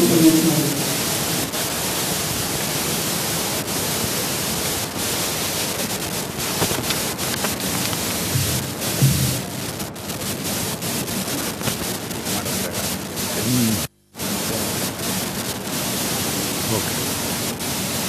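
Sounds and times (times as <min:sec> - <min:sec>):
steady audio hiss: 0:00.0 - 0:18.0.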